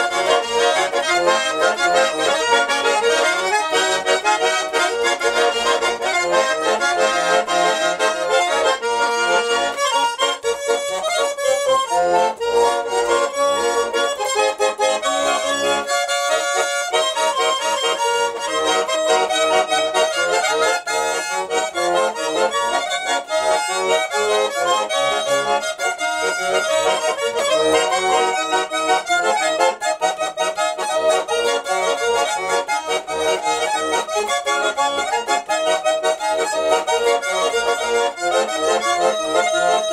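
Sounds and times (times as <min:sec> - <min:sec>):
button accordion tune: 0:00.0 - 0:39.9.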